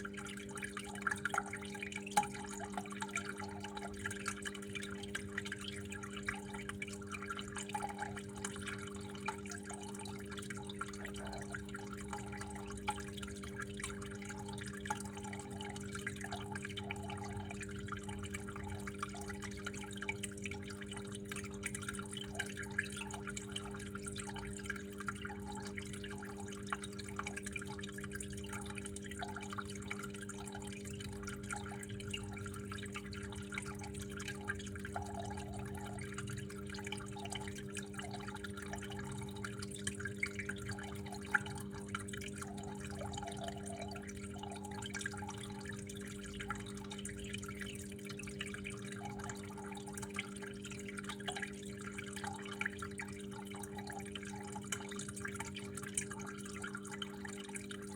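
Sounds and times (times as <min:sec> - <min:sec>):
water flowing and dripping: 0:00.0 - 0:57.9.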